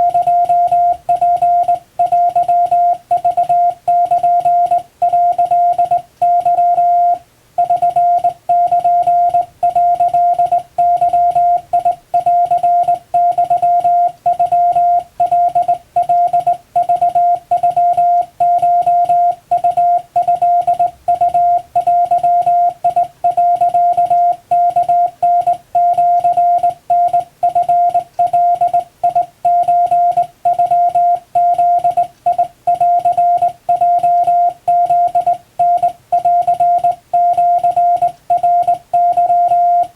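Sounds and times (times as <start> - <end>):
morse code beeping: 0.0 - 39.9.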